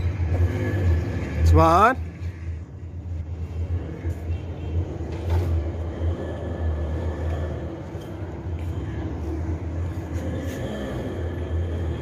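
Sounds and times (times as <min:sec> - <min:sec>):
faint town background noise: 0:00.0 - 0:12.0.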